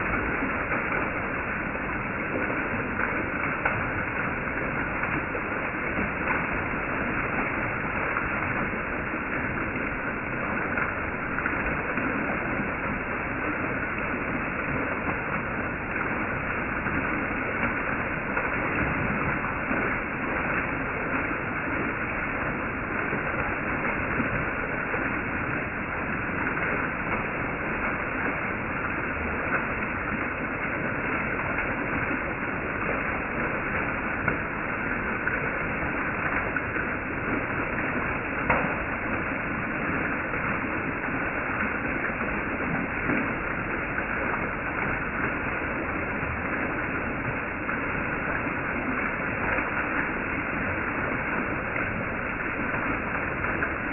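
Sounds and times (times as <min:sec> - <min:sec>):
small waterfall splashing: 0:00.0 - 0:53.9.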